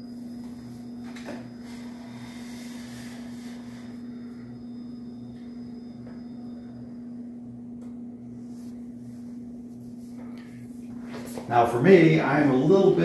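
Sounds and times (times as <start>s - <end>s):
desk motor humming with whine: 0.0s - 13.0s.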